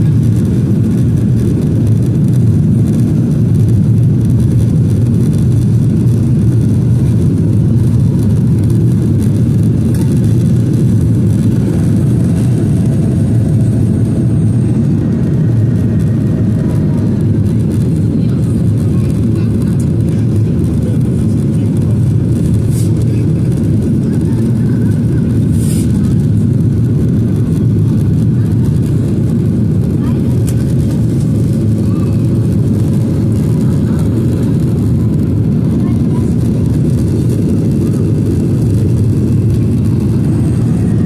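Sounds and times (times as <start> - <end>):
airliner cabin engine roar: 0.0 - 41.0
rushing airflow: 0.0 - 41.0.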